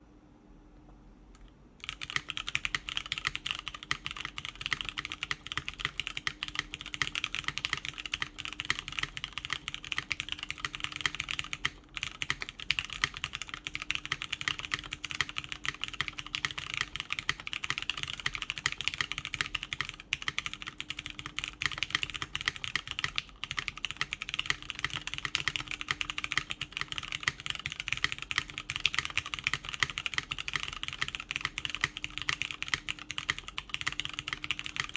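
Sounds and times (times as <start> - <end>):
mechanical keyboard typing: 1.8 - 34.9.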